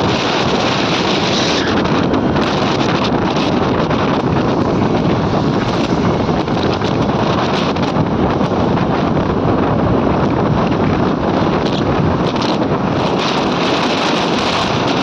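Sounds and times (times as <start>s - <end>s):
loud wind buffeting microphone: 0.0s - 15.0s.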